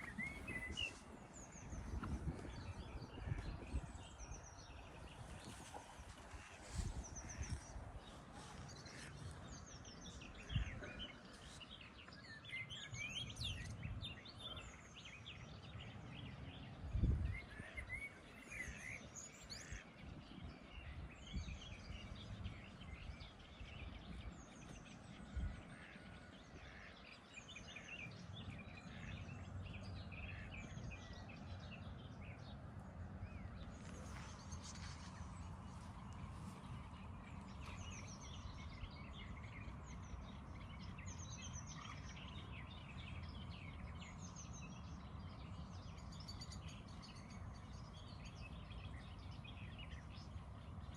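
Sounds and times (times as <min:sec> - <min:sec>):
small birds chirping and trilling: 0:00.0 - 0:50.9.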